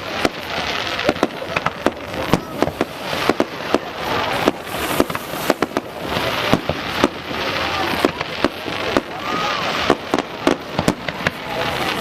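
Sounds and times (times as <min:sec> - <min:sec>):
crackling hiss: 0:00.0 - 0:12.0
fireworks bangs and cracks: 0:00.0 - 0:12.0.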